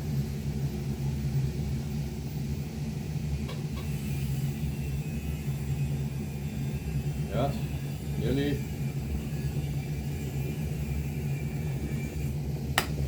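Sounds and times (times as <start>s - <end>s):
kettle water rumbling: 1.6s - 13.0s.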